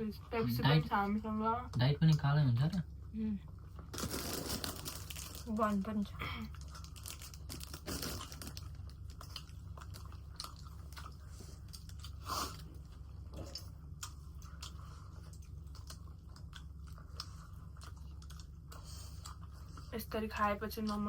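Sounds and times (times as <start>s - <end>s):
chewing and crunching food: 3.4s - 21.0s.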